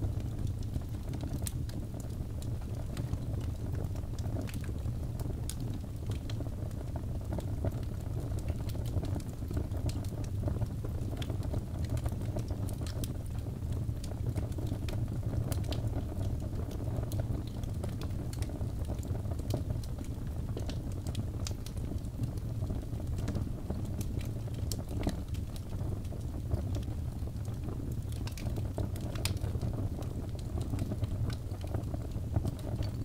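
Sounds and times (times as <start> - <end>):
low rumble of flame: 0.0 - 33.0
wood fire crackling and popping: 0.0 - 33.0.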